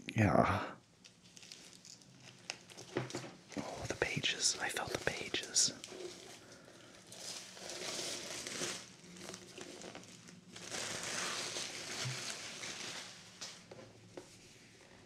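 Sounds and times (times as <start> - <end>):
plastic shrink-wrap crinkling: 1.0 - 13.8.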